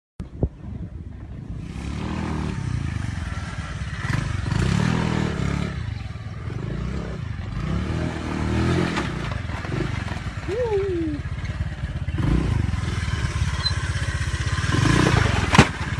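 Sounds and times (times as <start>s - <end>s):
motorbike engine revving: 1.4s - 15.9s.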